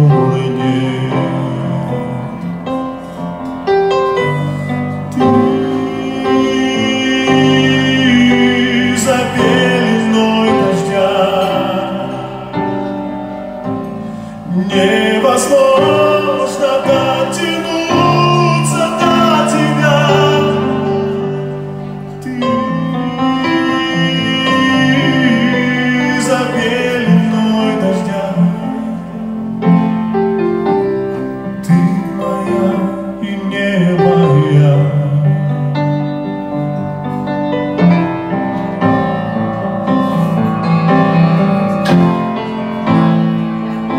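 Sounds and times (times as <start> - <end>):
man singing a slow ballad: 0.0 - 37.8
grand piano: 0.0 - 43.9.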